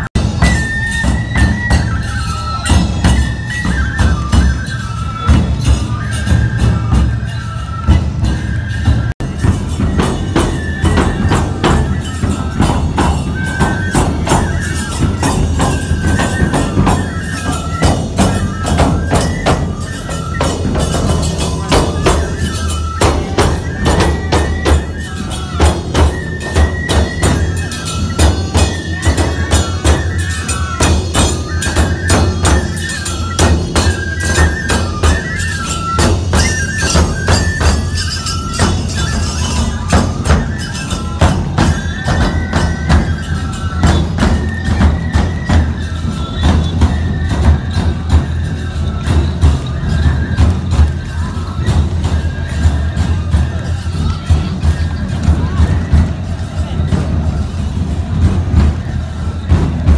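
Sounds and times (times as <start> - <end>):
hand cymbals clashing: 0.0 - 59.9
high bamboo flute melody: 0.0 - 59.9
taiko drums beating: 0.0 - 59.9.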